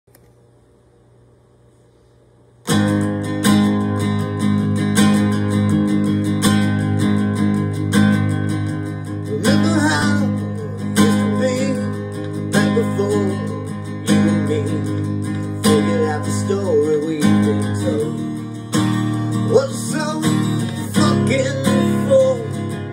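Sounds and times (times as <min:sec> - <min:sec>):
acoustic guitar strummed: 0:02.6 - 0:22.9.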